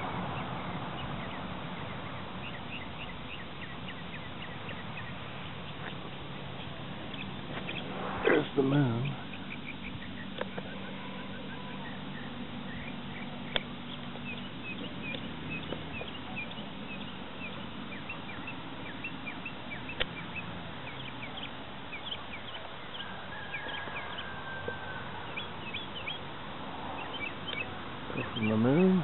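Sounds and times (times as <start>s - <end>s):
outdoor background: 0.0s - 29.0s
small birds chirping: 0.0s - 29.0s.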